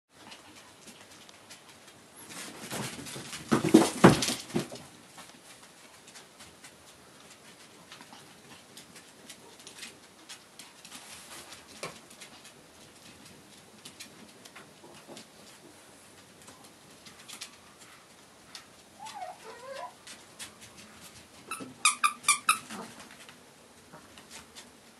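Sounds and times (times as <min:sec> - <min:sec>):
dogs scrabbling on a mat: 0:00.2 - 0:21.9.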